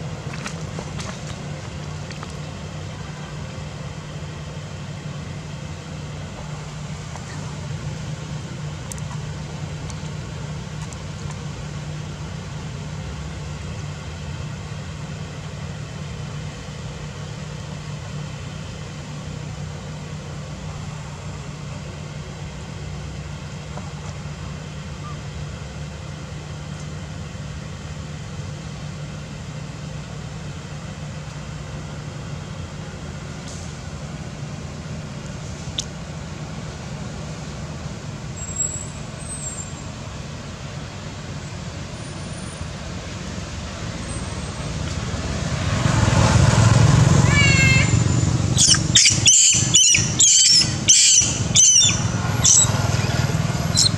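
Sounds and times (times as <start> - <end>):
vehicle engine idling: 0.0 - 53.9.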